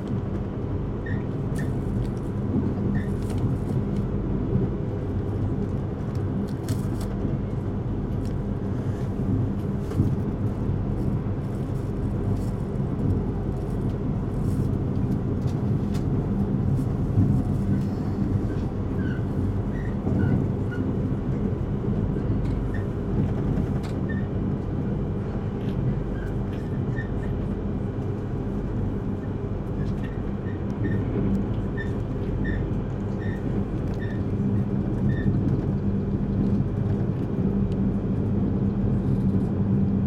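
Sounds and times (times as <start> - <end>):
train running rumble: 0.0 - 40.0.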